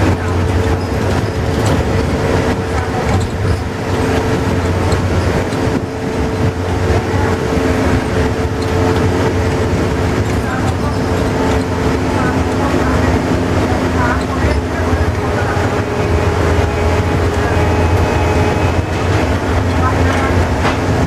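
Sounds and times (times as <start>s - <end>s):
bus engine drone: 0.0s - 21.0s
road and tyre noise: 0.0s - 21.0s.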